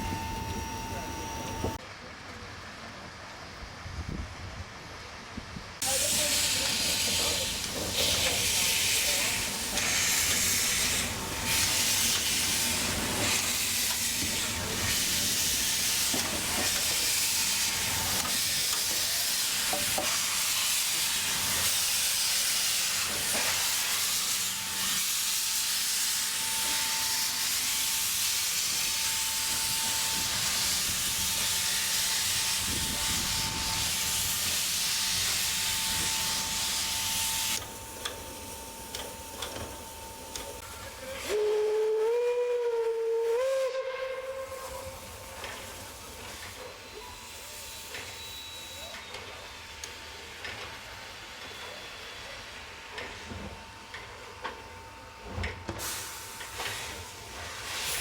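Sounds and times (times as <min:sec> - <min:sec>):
steam locomotive hissing steam: 0:00.0 - 0:01.8, 0:05.8 - 0:58.0.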